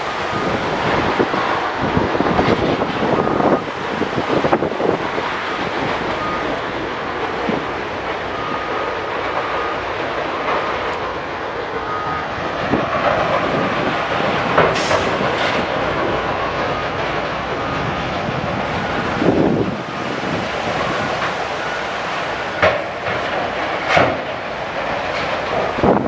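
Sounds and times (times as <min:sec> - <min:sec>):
sawmill machinery rumbling clatter: 0:00.0 - 0:26.0.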